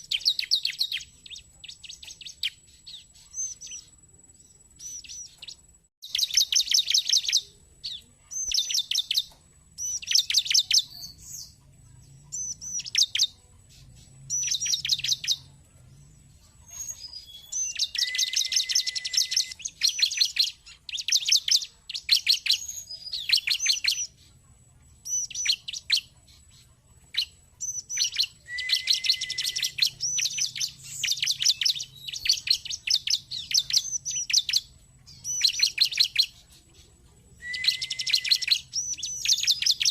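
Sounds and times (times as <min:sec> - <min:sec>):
bird chirping rapidly: 0:00.0 - 0:24.4, 0:25.0 - 0:39.9.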